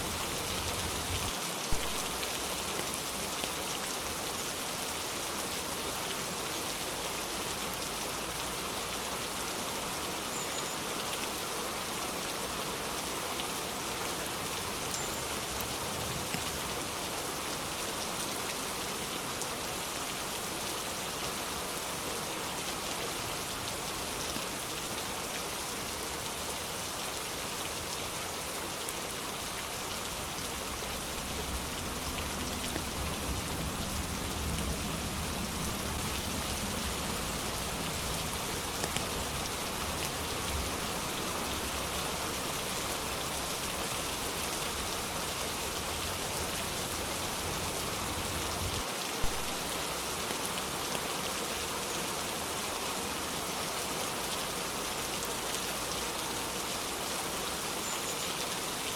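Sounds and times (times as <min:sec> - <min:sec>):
dense rain hissing: 0:00.0 - 0:58.8.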